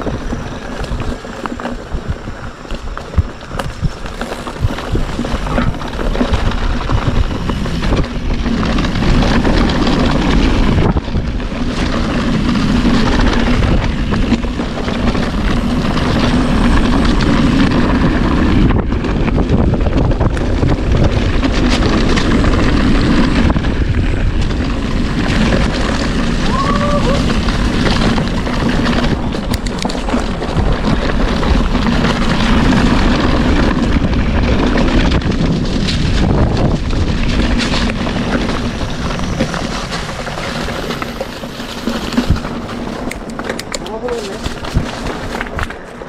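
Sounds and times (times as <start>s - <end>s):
bike knocks and rattles: 0.0s - 46.0s
bike tyre rumble on dirt: 0.0s - 46.0s
wind buffeting microphone: 0.0s - 46.0s.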